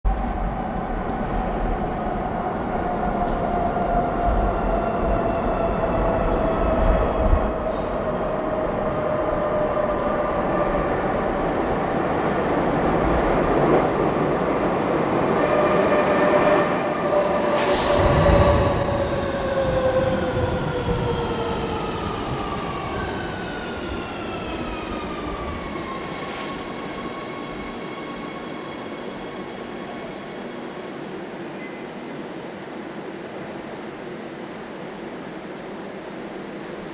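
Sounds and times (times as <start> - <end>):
metro train rumbling: 0.0 - 36.9.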